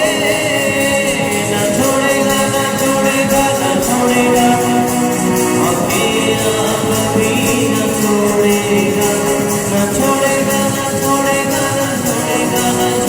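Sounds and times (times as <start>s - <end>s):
high percussion beat: 0.0s - 13.0s
sustained melodic notes: 0.0s - 13.0s.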